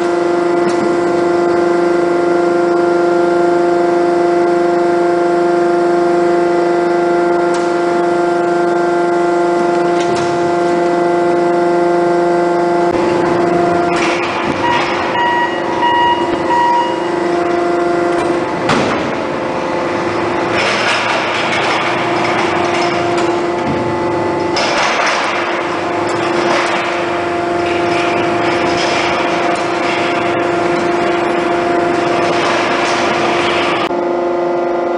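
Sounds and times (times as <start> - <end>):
hydraulic press humming: 0.0 - 34.9.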